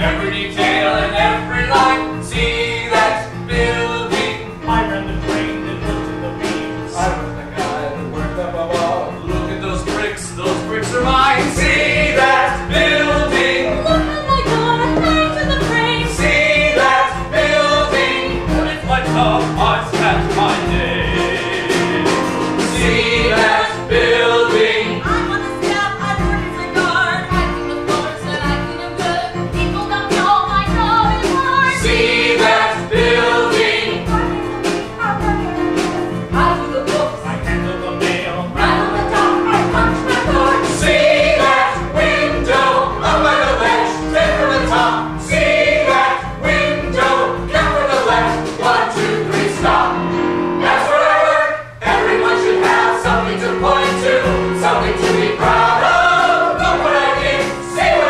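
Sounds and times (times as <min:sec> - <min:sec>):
cast singing with accompaniment: 0:00.0 - 0:58.0.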